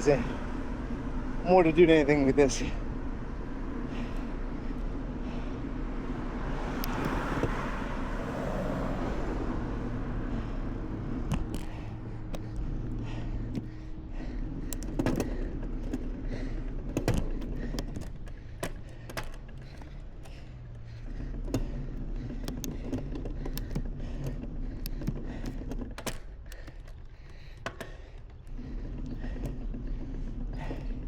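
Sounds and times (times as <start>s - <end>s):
bicycle tyres rumbling on road: 0.0s - 31.0s
bike rattling over bumps: 0.0s - 31.0s.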